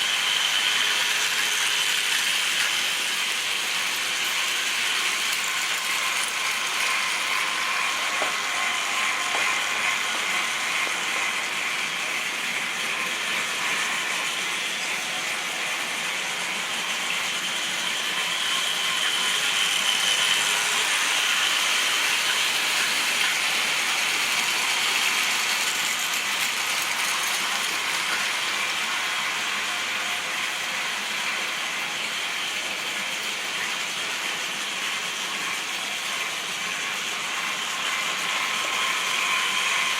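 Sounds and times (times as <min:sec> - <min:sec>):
model train whirring and clattering: 0:00.0 - 0:39.9.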